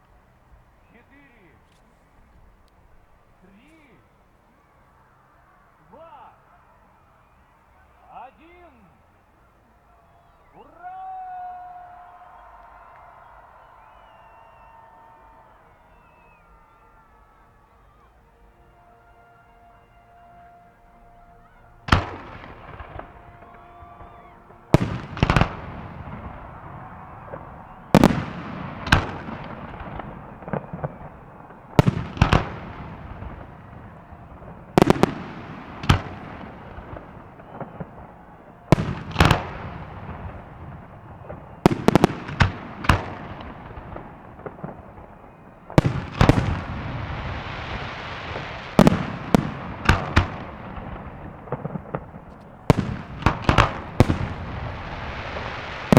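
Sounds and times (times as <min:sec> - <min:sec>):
crackling hiss of fireworks: 0:00.0 - 0:55.9
rolling echo: 0:00.0 - 0:55.9.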